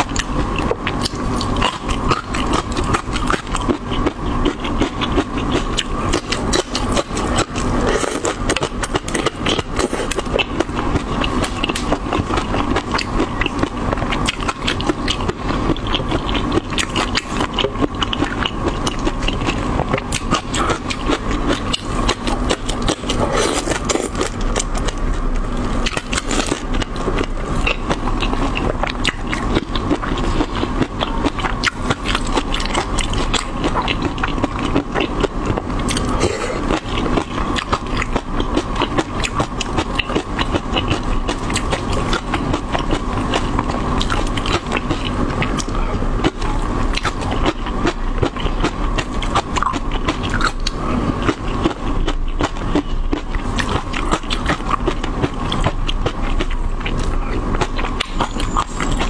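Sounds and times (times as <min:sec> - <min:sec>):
mouth clicks and chewing: 0:00.0 - 0:59.0.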